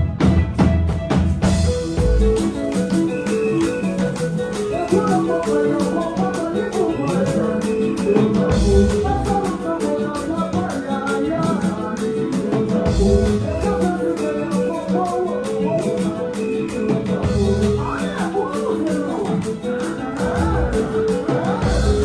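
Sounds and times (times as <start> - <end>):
upbeat song with singing: 0.0 - 22.0.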